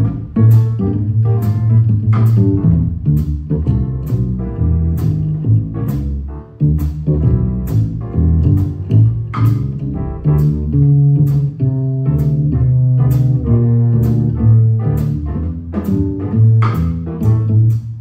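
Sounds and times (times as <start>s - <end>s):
piano: 0.0s - 18.0s
plucked upright bass: 0.0s - 18.0s.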